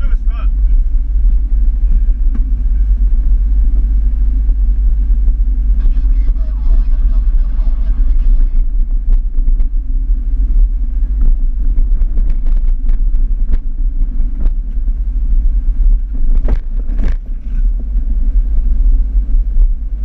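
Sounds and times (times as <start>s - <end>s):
vehicle rumbling on dirt track: 0.0s - 20.0s.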